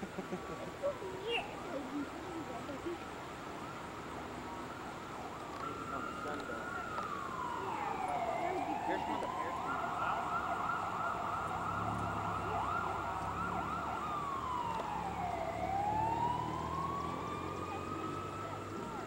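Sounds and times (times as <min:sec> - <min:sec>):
emergency vehicle siren wailing: 0:01.6 - 0:19.0.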